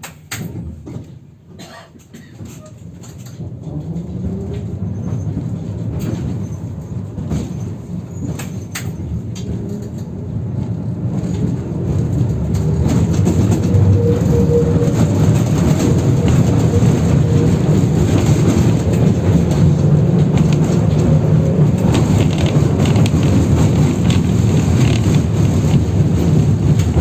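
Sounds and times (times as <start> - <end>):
tram rumbling on rails: 0.0 - 27.0.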